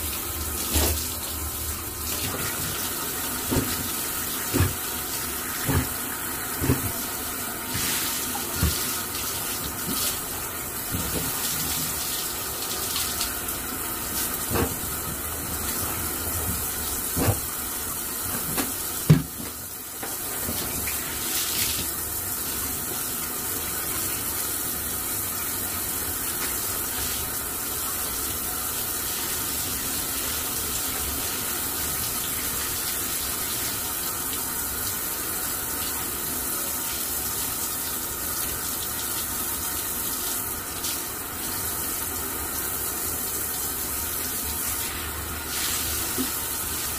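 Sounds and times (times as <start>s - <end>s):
water running from hose: 0.0s - 46.9s.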